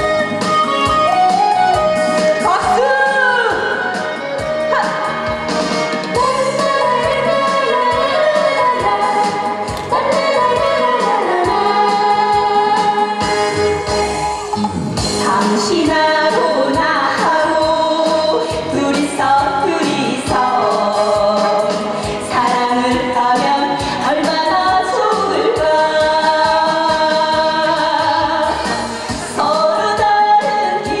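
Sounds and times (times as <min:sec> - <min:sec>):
instrumental accompaniment with beat: 0:00.0 - 0:31.0
woman singing into microphone: 0:01.1 - 0:05.4, 0:06.1 - 0:13.6, 0:15.2 - 0:31.0.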